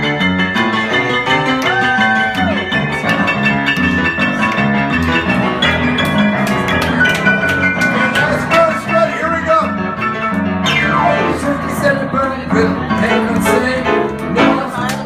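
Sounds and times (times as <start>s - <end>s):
held lead notes: 0.0s - 14.9s
bass line: 0.0s - 15.0s
rock band playing: 0.0s - 15.0s.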